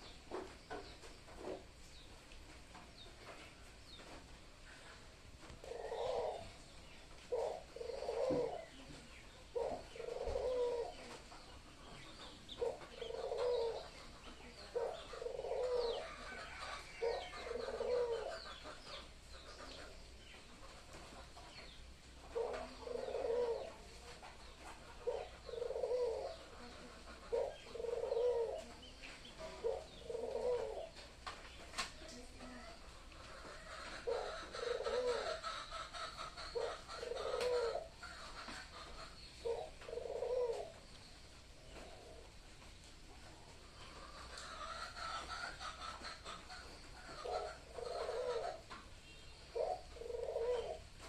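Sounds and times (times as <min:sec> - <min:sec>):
doves cooing: 0:00.0 - 0:42.6, 0:43.2 - 0:51.0.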